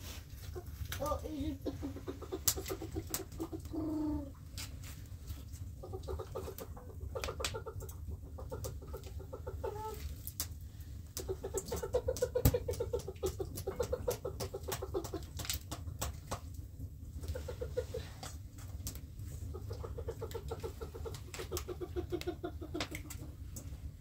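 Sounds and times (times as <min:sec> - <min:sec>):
hens clucking: 0:00.1 - 0:24.0.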